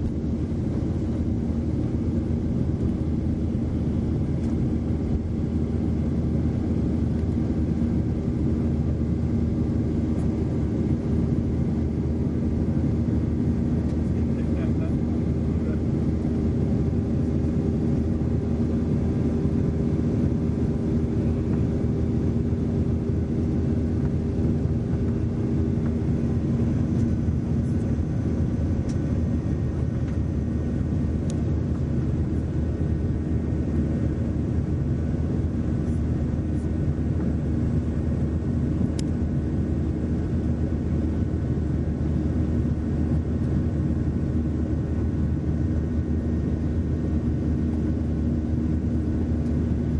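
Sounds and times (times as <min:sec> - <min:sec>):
jet airliner cabin drone: 0:00.0 - 0:49.9.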